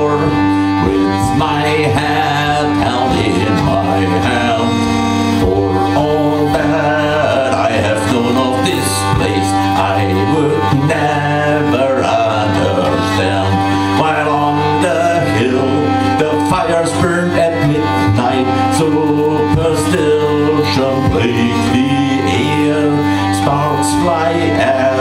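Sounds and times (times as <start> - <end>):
drone notes: 0.0 - 25.0
stringed instrument melody: 0.0 - 25.0.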